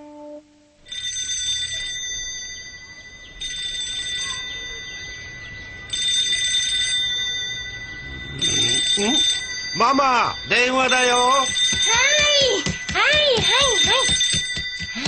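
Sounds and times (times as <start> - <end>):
telephone bell ringing: 0.9 - 15.0.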